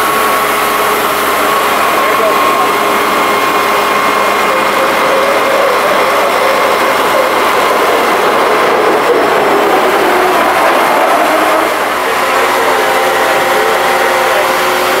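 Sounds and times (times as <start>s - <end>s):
constant rushing noise: 0.0s - 15.0s
turbine engine whine: 0.0s - 15.0s.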